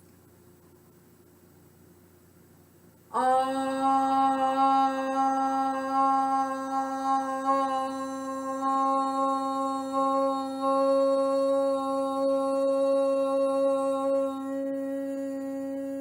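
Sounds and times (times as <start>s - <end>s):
person chanting om: 3.1s - 16.0s.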